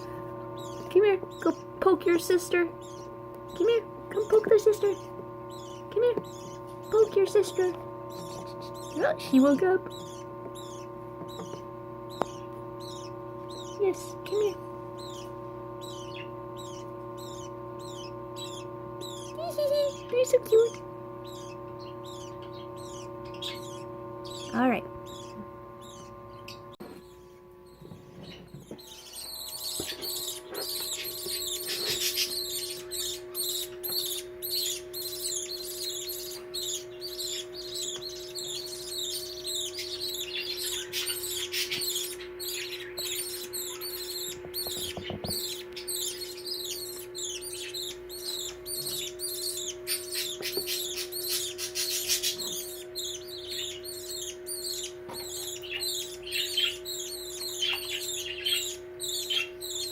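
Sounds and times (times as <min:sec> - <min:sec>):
baby budgies chirping: 0:00.0 - 0:59.9
steady low hum: 0:00.0 - 0:59.9.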